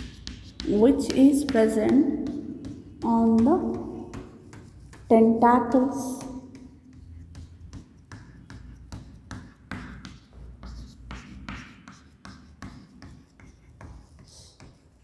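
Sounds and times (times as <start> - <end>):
chalk tapping and scratching: 0.0 - 15.0.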